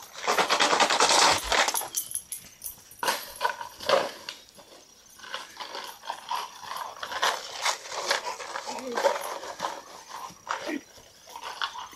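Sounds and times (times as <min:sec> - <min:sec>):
rocks rattling in plastic bottle: 0:00.0 - 0:02.2, 0:03.0 - 0:11.9.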